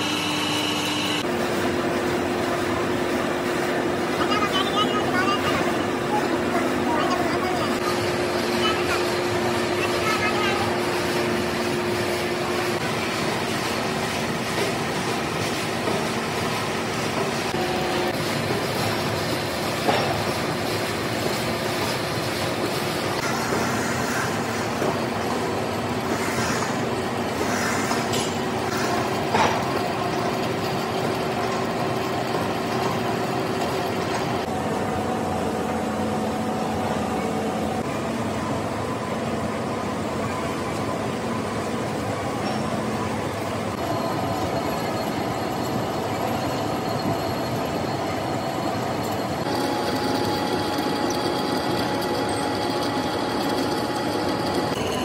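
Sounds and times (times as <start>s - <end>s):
lathe mechanical drone: 0.0s - 55.0s.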